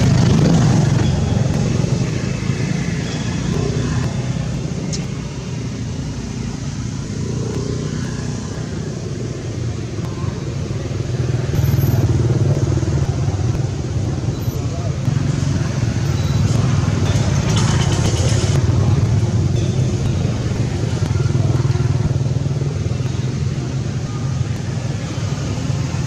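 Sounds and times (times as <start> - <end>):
motorcycle engine: 0.0 - 26.0
road traffic engine noise: 0.0 - 26.0.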